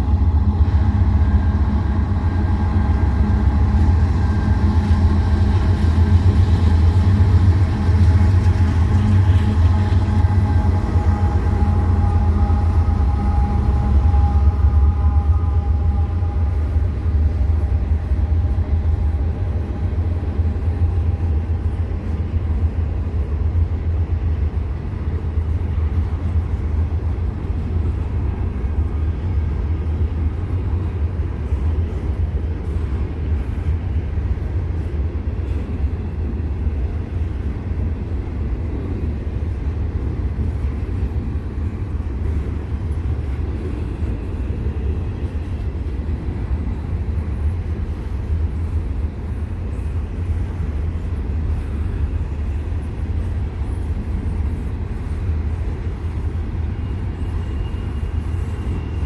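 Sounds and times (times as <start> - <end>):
diesel locomotive rumble: 0.0 - 59.0.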